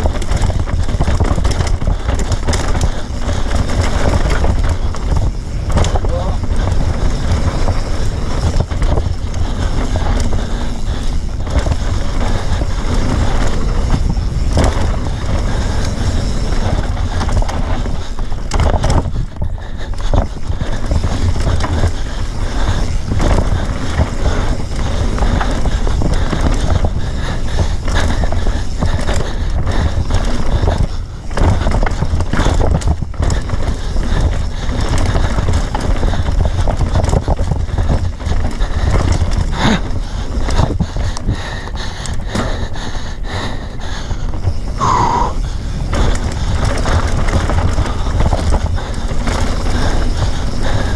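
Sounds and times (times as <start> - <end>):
motorbike rattling over dirt trail: 0.0 - 50.9
wind buffeting microphone: 0.0 - 50.9.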